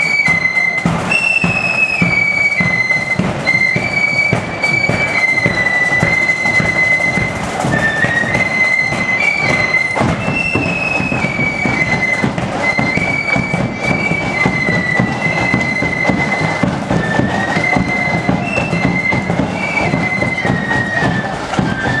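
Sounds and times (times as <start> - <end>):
flutes playing march melody: 0.0 - 22.0
side drums: 0.0 - 22.0.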